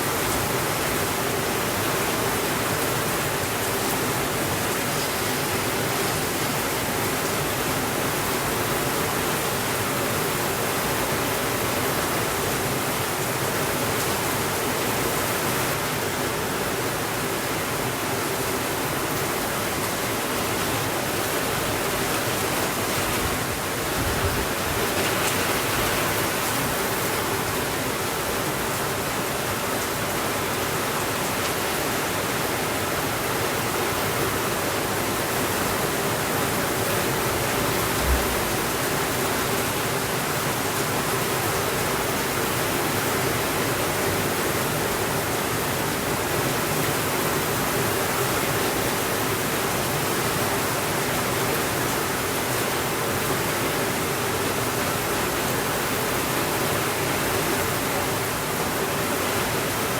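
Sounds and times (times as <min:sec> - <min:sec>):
heavy rain on a window: 0:00.0 - 0:59.9.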